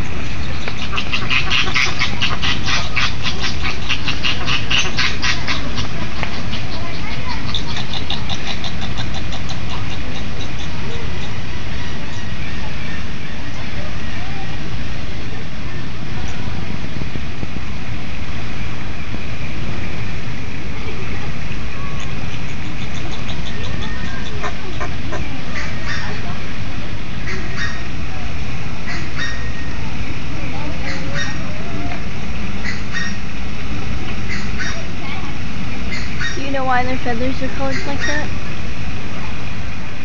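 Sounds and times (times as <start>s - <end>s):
flamingos honking: 0.0s - 14.7s, 20.8s - 38.6s
steady low rumble: 0.0s - 40.0s.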